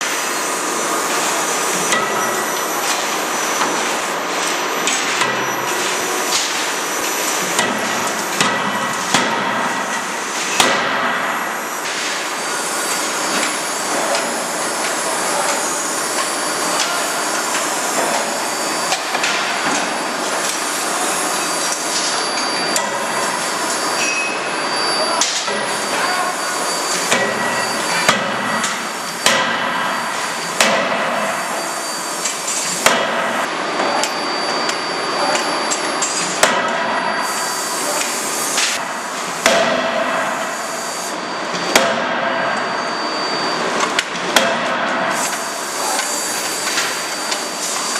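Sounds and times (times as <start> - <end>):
steady machine noise: 0.0 - 47.9.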